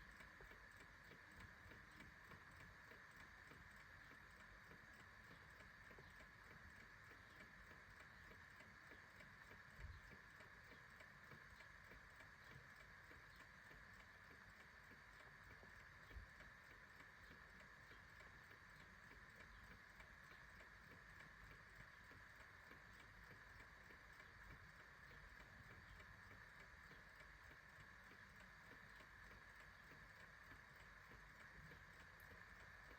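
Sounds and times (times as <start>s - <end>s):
clock ticking: 0.0s - 32.9s.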